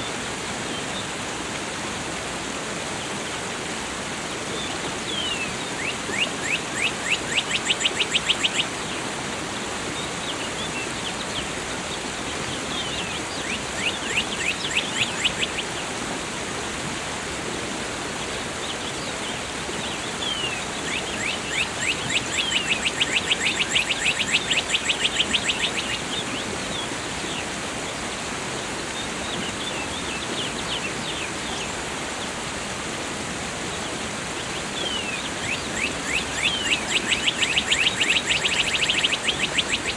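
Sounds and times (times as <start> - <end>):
falling water rushing: 0.0 - 39.9
songbird singing: 4.5 - 16.0, 18.2 - 32.4, 33.6 - 39.9.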